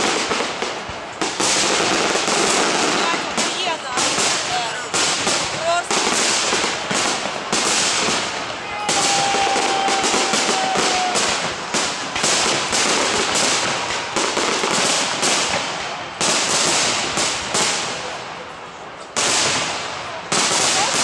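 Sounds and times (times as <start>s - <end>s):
fireworks shells bursting: 0.0s - 18.2s
fireworks crackle: 0.0s - 21.0s.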